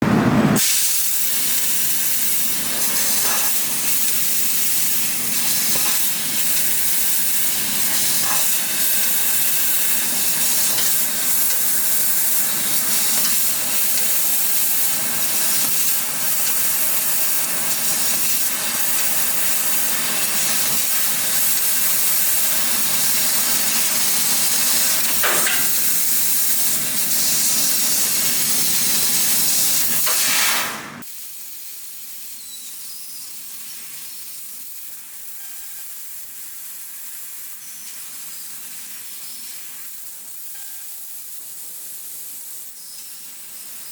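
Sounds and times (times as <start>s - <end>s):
laser cutter gas jet hissing: 0.6s - 43.9s.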